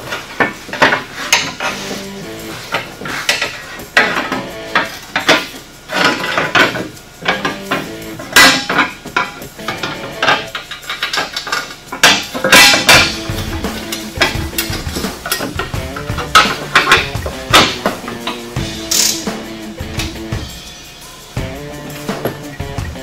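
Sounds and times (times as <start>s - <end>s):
metal clanks and rattles: 0.0s - 23.0s.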